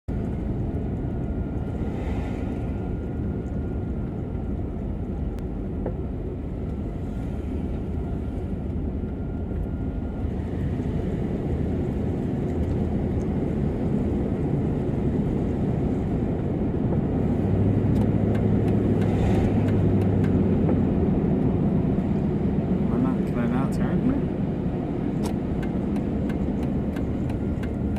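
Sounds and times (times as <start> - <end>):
low hum: 0.1 - 27.9
vehicle engine rumbling: 0.1 - 27.9.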